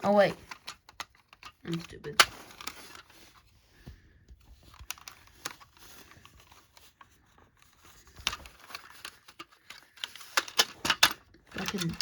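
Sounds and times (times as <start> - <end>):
plastic clicks and rustling: 0.0 - 12.0.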